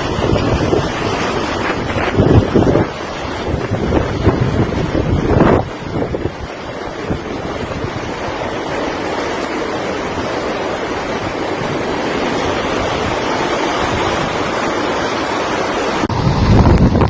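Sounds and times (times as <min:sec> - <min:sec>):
rushing wind and water: 0:00.0 - 0:17.0
wind buffeting microphone: 0:00.0 - 0:17.0.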